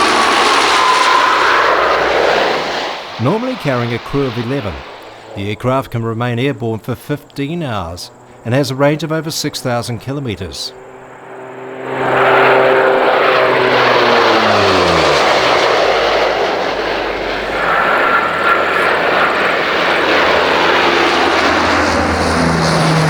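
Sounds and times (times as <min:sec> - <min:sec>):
turboprop aircraft passing low: 0:00.0 - 0:23.0.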